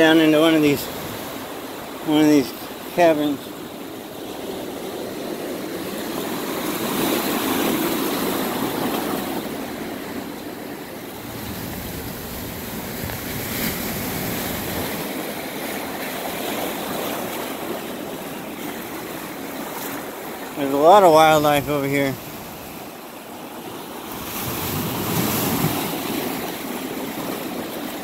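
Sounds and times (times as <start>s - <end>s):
surf washing among rocks: 0.0s - 28.0s.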